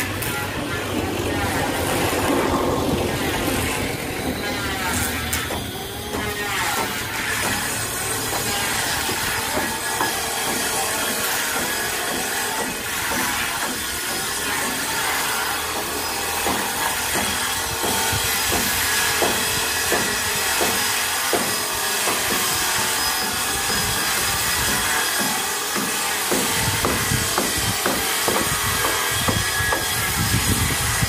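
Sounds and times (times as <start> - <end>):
hand saw cutting wood: 0.0 - 31.0.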